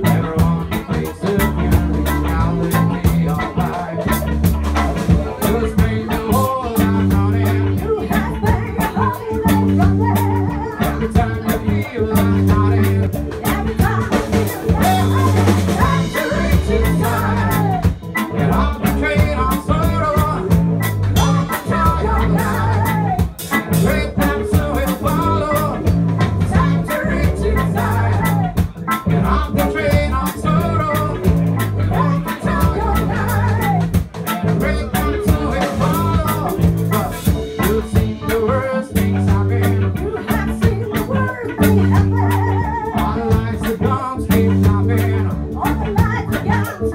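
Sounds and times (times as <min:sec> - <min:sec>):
reggae band playing live: 0:00.0 - 0:46.9.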